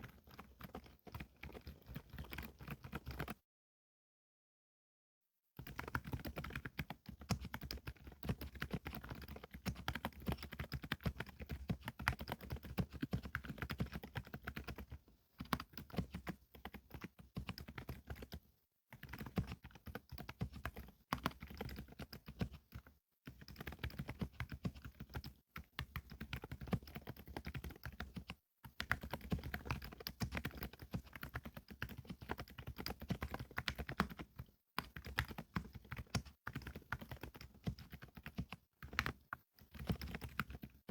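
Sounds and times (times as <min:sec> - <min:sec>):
keyboard typing: 0:00.0 - 0:03.4, 0:05.6 - 0:40.8.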